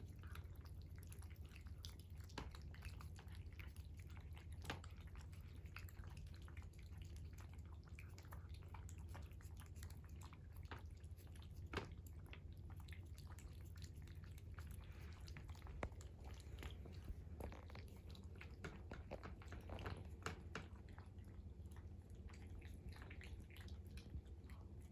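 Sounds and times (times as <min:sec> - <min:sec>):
cat chewing food: 0:00.0 - 0:24.9.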